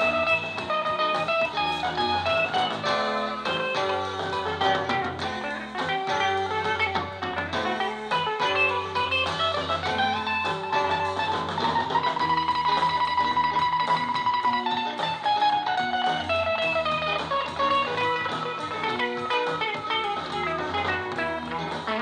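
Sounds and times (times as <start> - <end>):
bass line: 0.0 - 22.0
electric guitar lead: 0.0 - 22.0.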